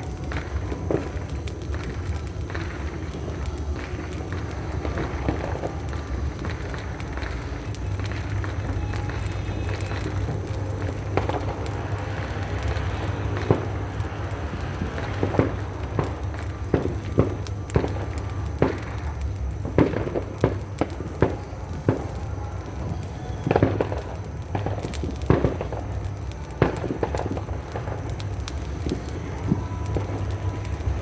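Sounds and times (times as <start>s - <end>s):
firecrackers popping and cracking: 0.0s - 31.0s
steady low rumble: 0.0s - 31.0s.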